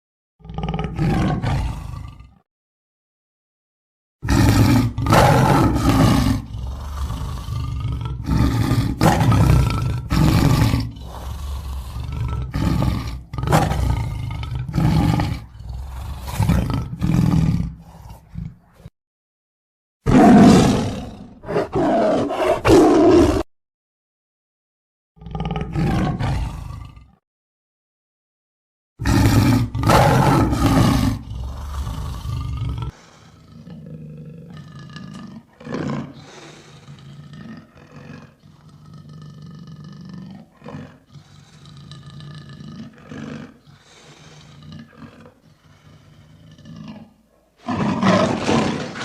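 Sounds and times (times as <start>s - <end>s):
lion roaring: 0.4s - 2.4s, 4.2s - 18.9s, 20.1s - 23.5s, 25.2s - 27.2s, 29.0s - 49.0s.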